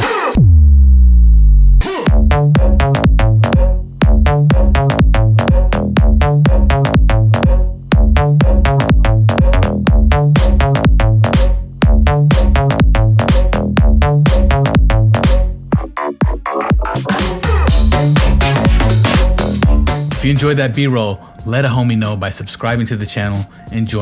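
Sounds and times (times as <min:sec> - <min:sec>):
deep bass sweep falling: 0:00.4 - 0:15.9, 0:16.7 - 0:20.6
electronic dance music: 0:01.8 - 0:22.0.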